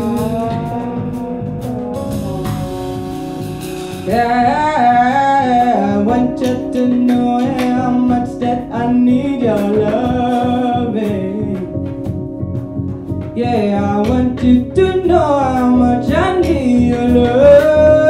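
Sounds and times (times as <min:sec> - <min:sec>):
woman singing jazz: 0:00.0 - 0:12.3, 0:13.2 - 0:18.0
jazz band playing: 0:00.0 - 0:18.0.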